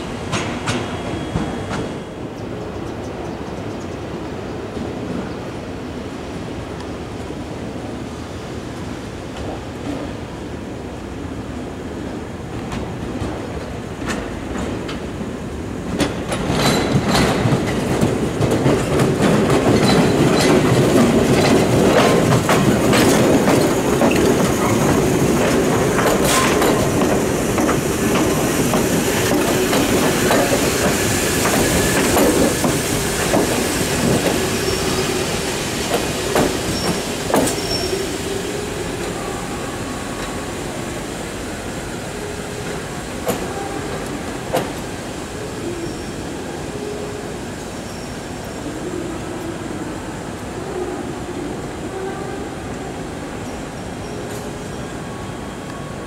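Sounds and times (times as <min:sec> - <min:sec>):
low rumble of train: 0:00.0 - 0:56.0.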